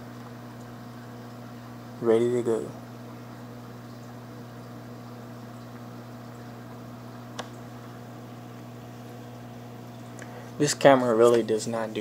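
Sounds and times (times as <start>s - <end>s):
aquarium equipment humming: 0.0s - 12.0s.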